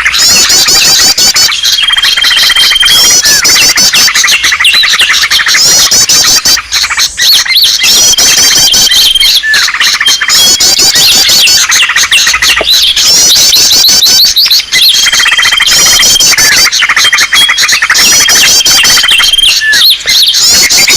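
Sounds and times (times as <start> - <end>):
many small birds chirping: 0.0 - 20.9.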